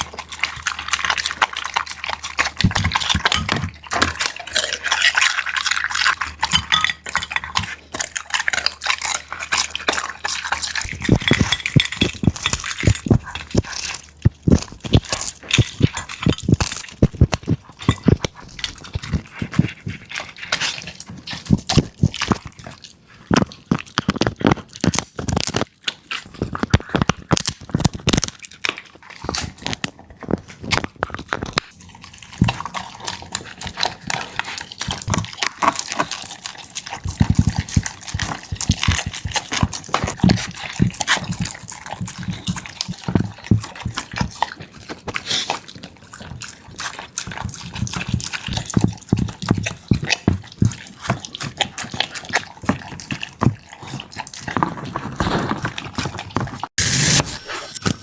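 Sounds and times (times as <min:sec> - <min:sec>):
dog eating wet food: 0:00.0 - 0:58.0.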